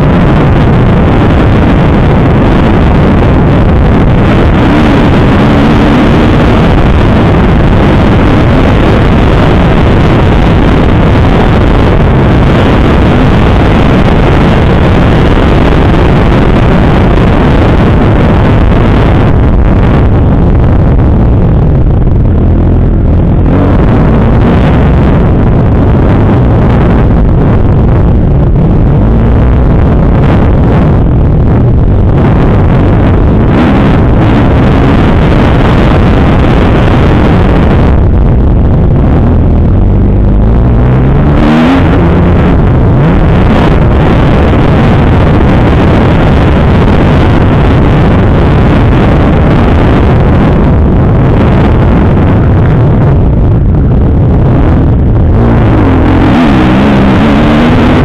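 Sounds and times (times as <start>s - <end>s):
motorcycle engine revving: 0.0s - 58.0s
wind on microphone: 0.0s - 58.0s.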